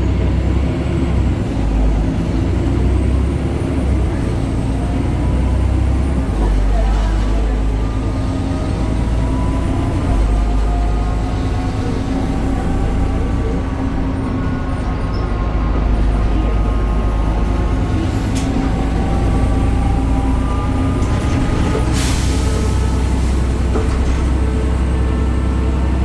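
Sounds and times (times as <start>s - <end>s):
bus engine low rumble: 0.0s - 26.0s.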